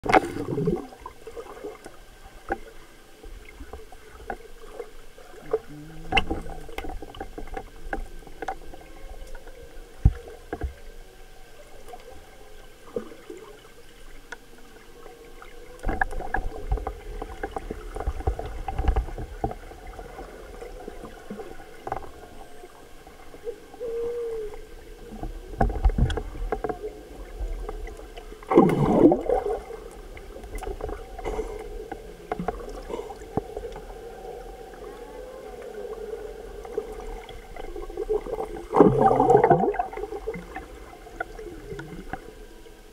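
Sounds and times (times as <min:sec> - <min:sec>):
muffled water movement: 0:00.0 - 0:42.9
underwater hum: 0:00.0 - 0:42.9.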